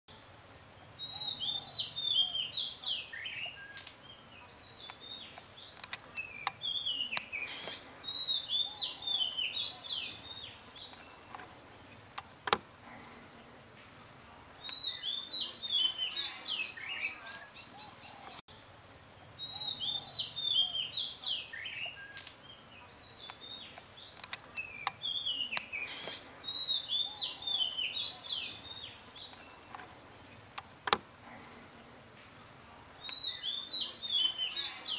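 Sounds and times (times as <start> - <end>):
songbird chirping: 0.1 - 34.9.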